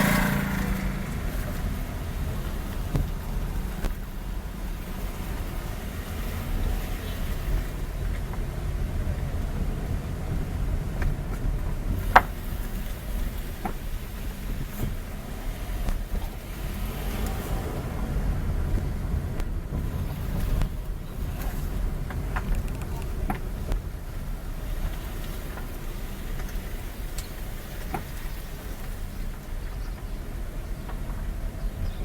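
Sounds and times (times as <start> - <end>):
vehicle rumbling: 0.0 - 32.0.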